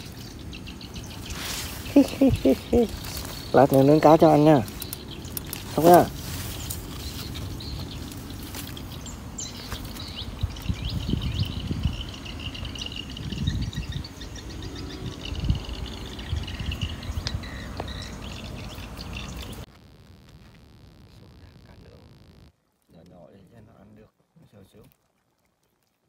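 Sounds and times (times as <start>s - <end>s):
birds chirping: 0.0s - 22.5s.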